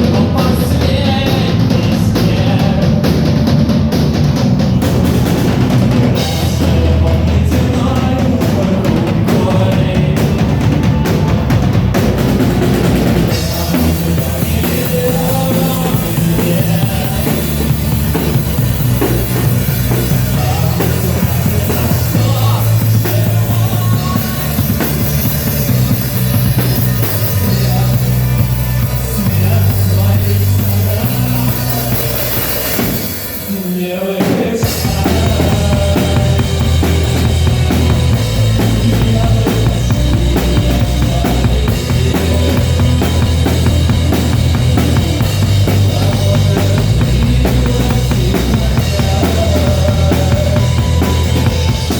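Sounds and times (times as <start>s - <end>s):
low bass notes: 0.0s - 33.4s, 34.6s - 51.9s
drum kit beating: 0.0s - 51.9s
rock band playing live: 0.0s - 51.9s.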